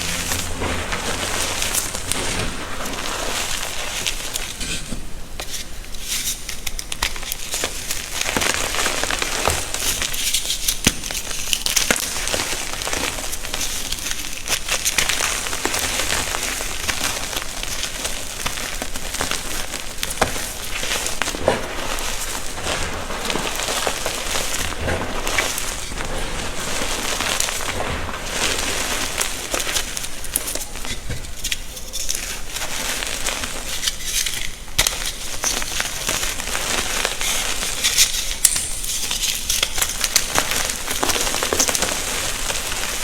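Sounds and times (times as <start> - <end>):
chalk crushing and crunching: 0.0 - 43.0.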